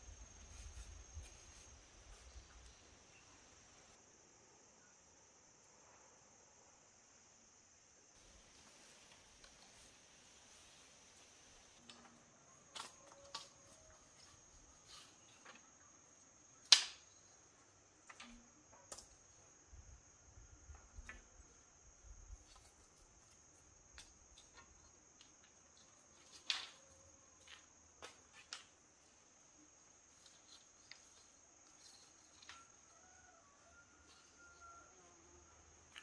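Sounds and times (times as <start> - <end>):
high insect drone: 0.0 - 36.0.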